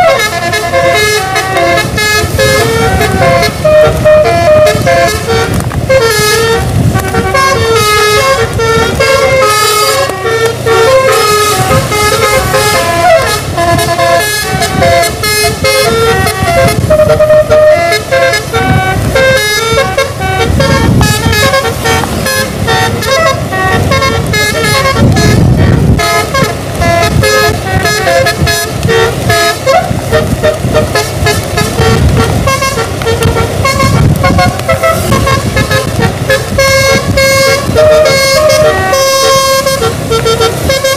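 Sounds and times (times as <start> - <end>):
musical air horn melody: 0.0 - 40.9
vehicle engines rumbling: 0.0 - 40.9.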